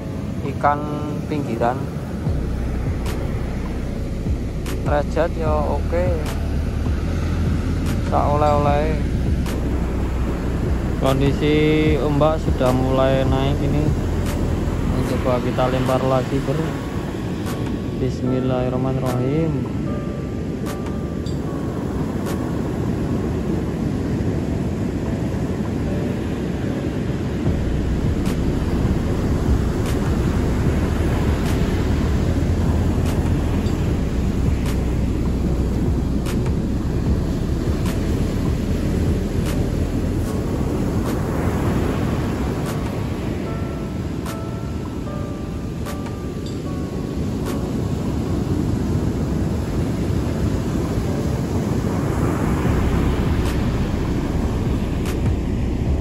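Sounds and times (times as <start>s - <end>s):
ocean surf breaking: 0.0s - 56.0s
wind rumble on microphone: 0.0s - 56.0s.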